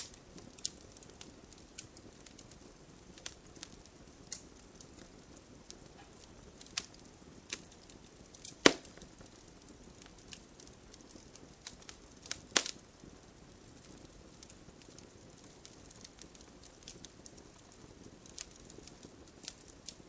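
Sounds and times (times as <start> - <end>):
bonfire crackling and popping: 0.0 - 20.0
rain hiss: 0.0 - 20.0.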